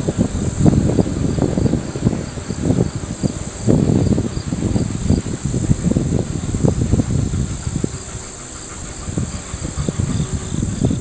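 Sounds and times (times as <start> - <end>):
insects droning: 0.0 - 11.0
steam locomotive exhaust rumble: 0.0 - 11.0.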